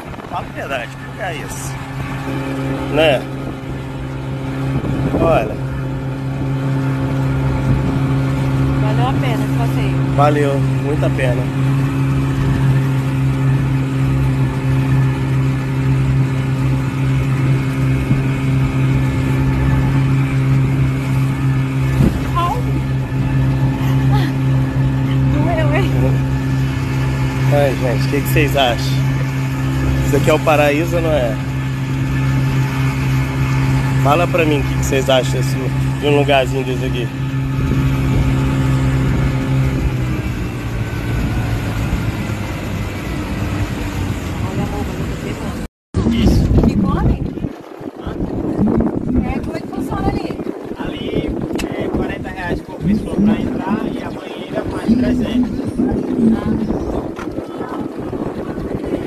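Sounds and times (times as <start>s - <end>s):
boat engine droning: 0.0s - 59.0s
water rushing: 0.0s - 59.0s
wind: 0.0s - 59.0s.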